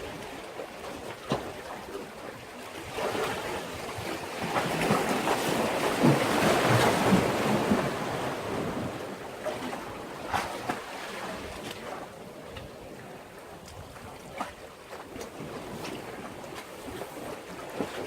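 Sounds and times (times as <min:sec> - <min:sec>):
wave surging against breakwater: 0:00.0 - 0:18.0.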